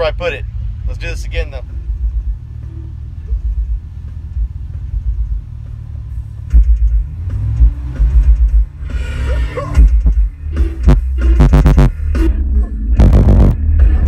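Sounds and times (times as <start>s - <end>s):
distorted heavy metal through subwoofers: 1.0s - 14.0s.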